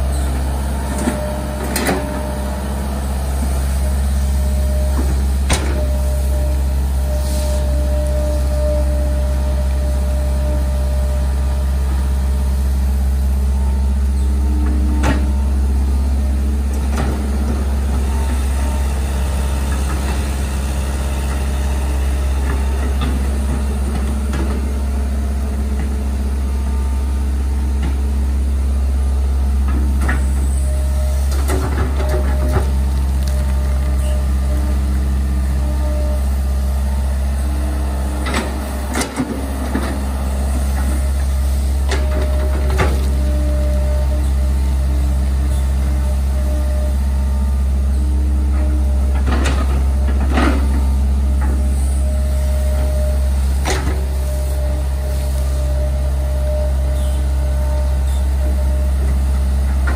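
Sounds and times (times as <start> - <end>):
excavator diesel engine: 0.0 - 59.9
hydraulic whine: 0.0 - 59.9.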